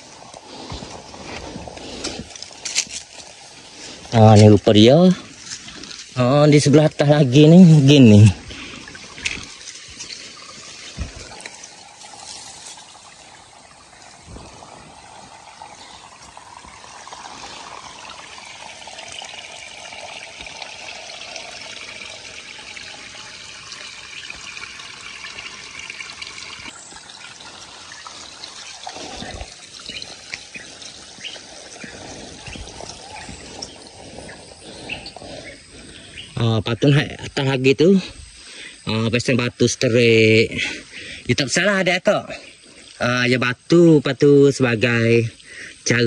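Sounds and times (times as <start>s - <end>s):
stream trickling over rocks: 0.0s - 46.0s.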